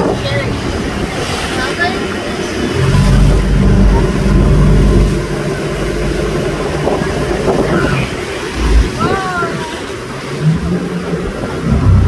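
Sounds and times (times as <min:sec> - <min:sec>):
motorboat engine humming: 0:00.0 - 0:12.0
water rushing in wake: 0:00.0 - 0:12.0.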